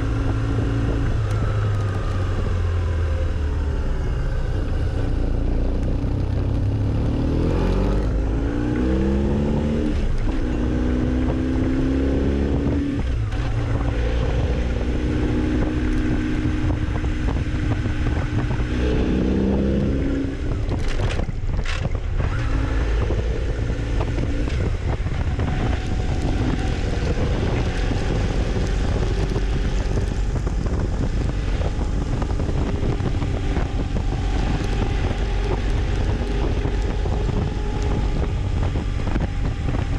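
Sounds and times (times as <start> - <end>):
motorcycle engine accelerating: 0.0 - 39.9
wind over microphone: 0.0 - 39.9.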